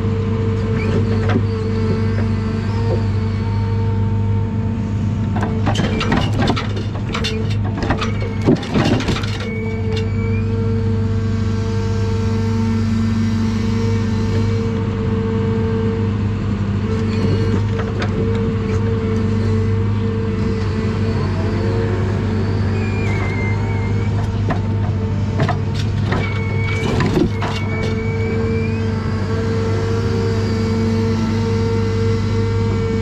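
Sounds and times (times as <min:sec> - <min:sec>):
diesel engine running: 0:00.0 - 0:33.0
crane hydraulics whining: 0:00.4 - 0:33.0.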